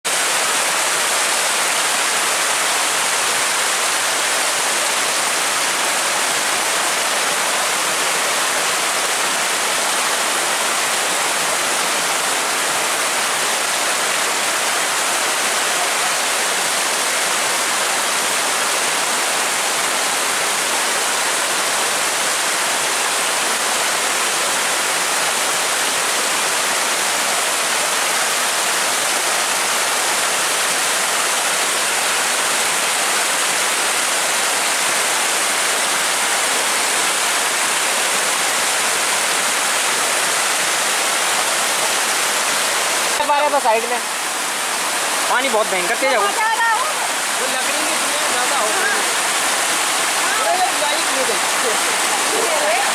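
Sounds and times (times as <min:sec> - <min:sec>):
floodwater rushing: 0:00.0 - 0:52.9.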